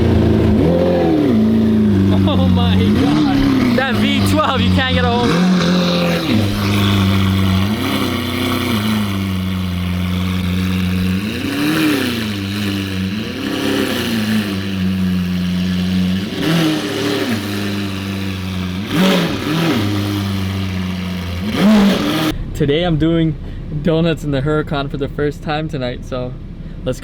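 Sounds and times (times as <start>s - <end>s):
car engine idling with throttle blips: 0.0s - 27.0s.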